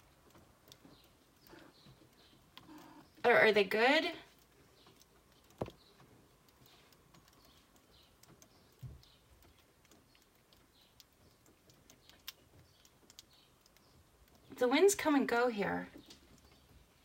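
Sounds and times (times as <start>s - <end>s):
light ticks: 0.0s - 3.2s, 4.3s - 15.2s.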